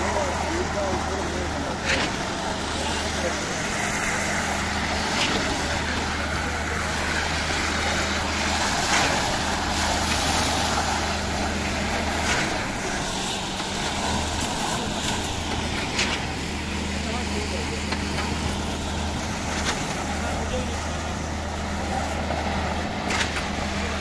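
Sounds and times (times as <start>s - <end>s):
concrete vibrator engine: 0.0s - 24.0s.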